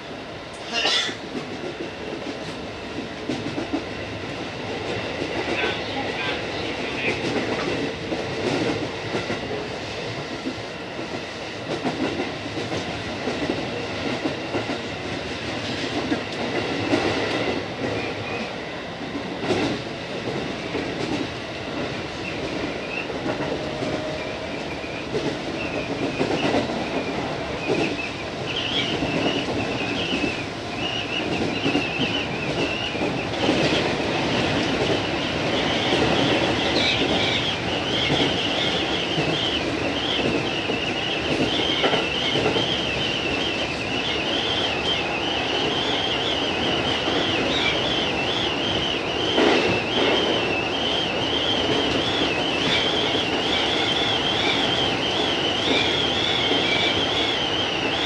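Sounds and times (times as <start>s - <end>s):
train rumble: 0.0s - 58.0s.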